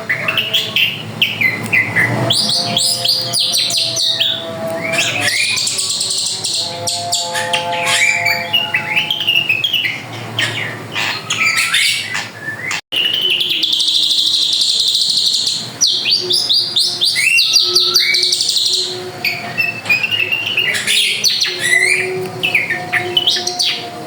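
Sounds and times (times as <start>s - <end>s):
bird chirps and whistles: 0.0s - 23.8s
buzzy bird trill: 0.0s - 24.0s.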